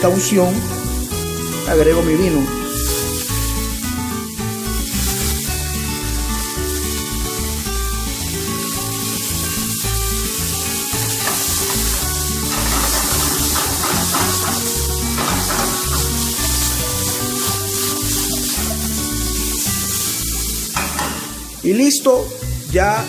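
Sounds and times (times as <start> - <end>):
background music: 0.0 - 23.0
fruit sizzling in a frying pan: 0.0 - 23.0.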